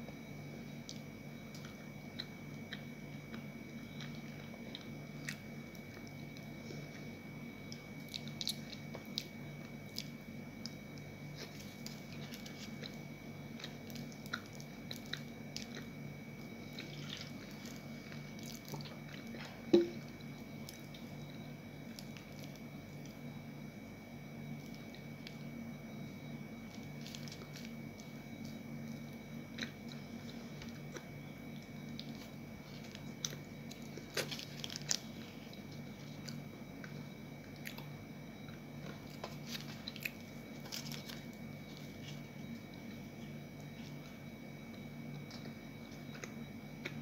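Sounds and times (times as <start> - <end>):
low hum: 0.0 - 47.0.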